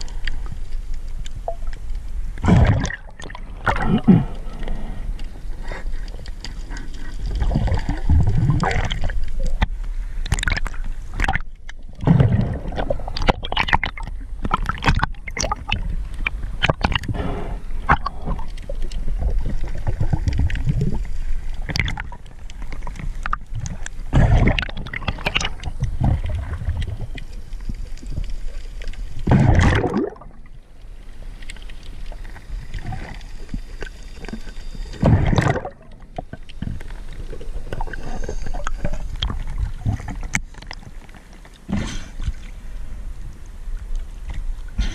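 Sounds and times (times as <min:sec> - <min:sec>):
underwater gurgling and sloshing: 0:00.0 - 0:44.9.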